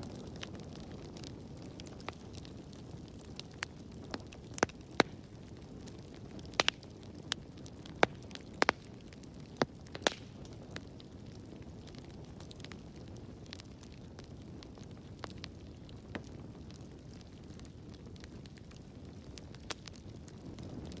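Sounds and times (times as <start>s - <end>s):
sharp pops from fire: 0.0s - 21.0s
wood fire crackling: 0.0s - 21.0s.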